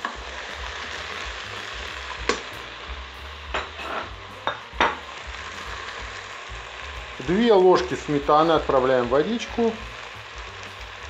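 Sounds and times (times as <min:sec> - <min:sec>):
food sizzling in a bowl: 0:00.0 - 0:11.0.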